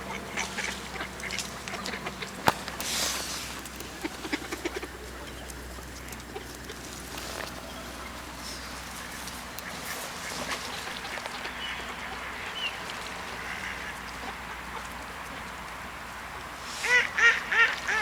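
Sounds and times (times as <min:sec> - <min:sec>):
ducks calling: 0:00.0 - 0:18.0.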